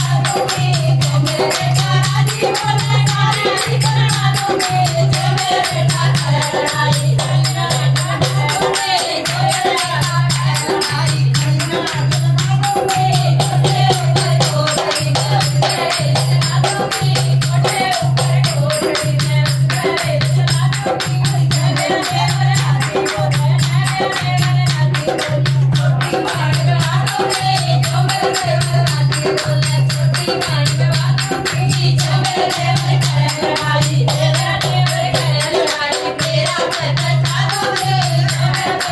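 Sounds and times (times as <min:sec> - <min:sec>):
group singing folk song: 0:00.0 - 0:38.9
hand drum beat: 0:00.0 - 0:38.9
jingling hand percussion: 0:00.0 - 0:38.9.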